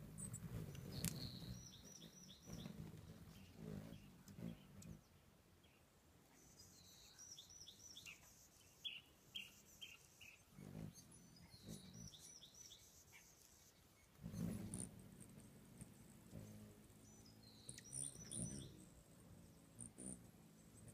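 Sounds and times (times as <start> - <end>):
hummingbirds chirping: 0.0 - 20.9.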